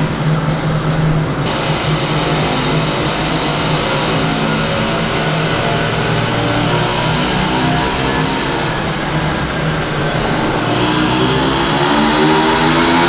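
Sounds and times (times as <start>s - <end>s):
scooter engine running under load: 0.1s - 13.0s.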